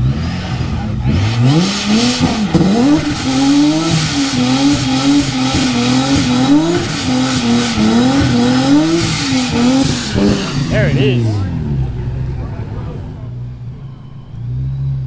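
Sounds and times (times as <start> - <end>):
car engine revving high: 0.0 - 13.7.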